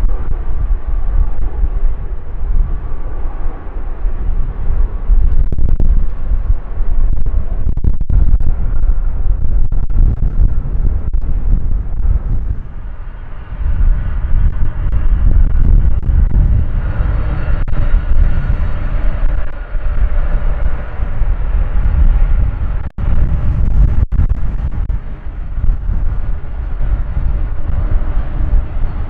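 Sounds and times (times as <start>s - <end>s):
jet engine rumble: 0.0s - 29.0s
jet engine whine: 0.0s - 29.0s.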